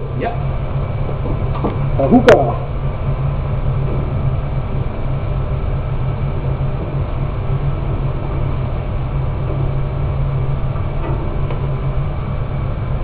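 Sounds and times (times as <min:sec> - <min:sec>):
extraction fan rushing: 0:00.0 - 0:13.0.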